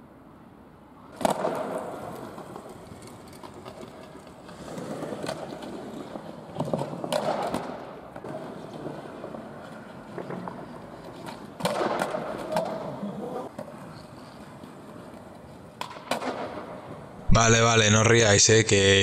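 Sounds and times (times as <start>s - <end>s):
skateboard wheels rolling on pavement: 0.0s - 17.3s
skateboard clacking on ground: 1.1s - 17.2s.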